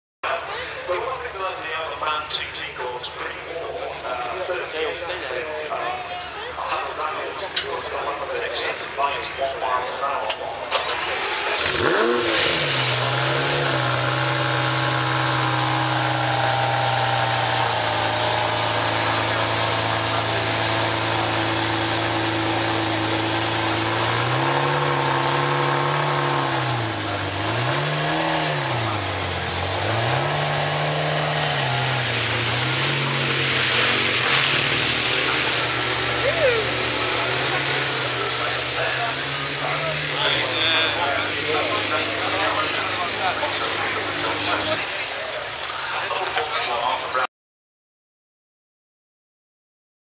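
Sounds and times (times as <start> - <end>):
car engine idling and revving: 2.1 - 46.2.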